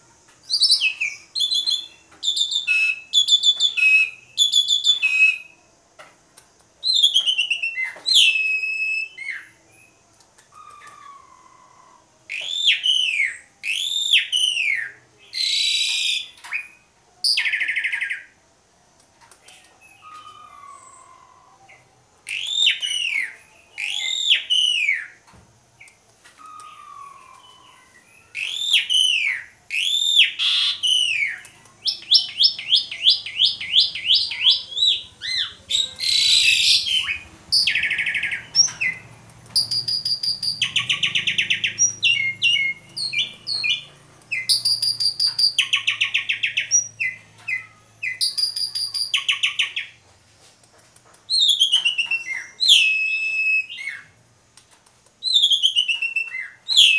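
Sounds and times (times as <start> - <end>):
starling singing: 0.0 - 5.6, 6.8 - 18.3, 19.4 - 25.2, 25.8 - 50.0, 51.3 - 54.2.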